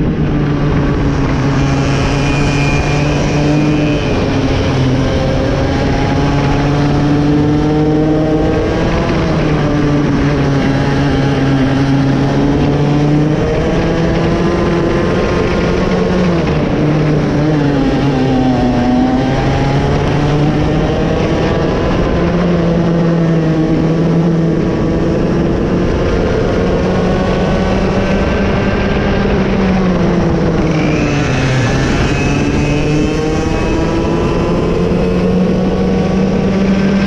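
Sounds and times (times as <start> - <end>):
kart engine revving: 0.0 - 37.0.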